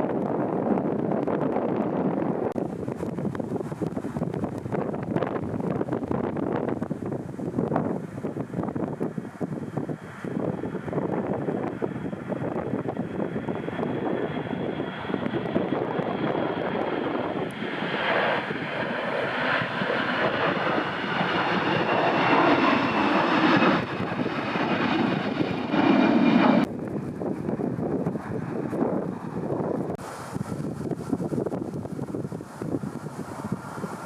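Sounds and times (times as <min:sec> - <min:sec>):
airliner engines whining: 0:00.0 - 0:34.0
wind on microphone: 0:00.0 - 0:34.0.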